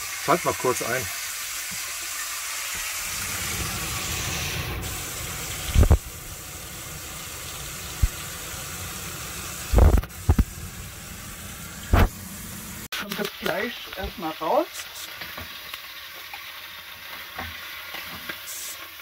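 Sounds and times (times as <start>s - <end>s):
meat sizzling in a pot: 0.0s - 19.0s.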